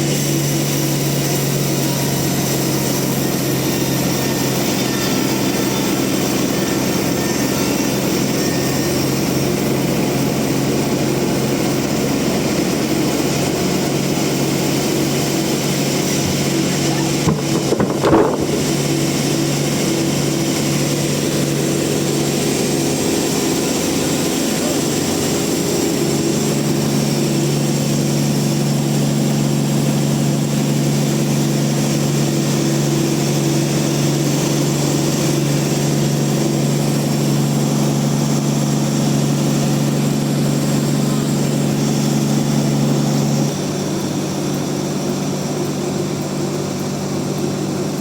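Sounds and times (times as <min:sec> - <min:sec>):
band sawmill humming: 0:00.0 - 0:48.0.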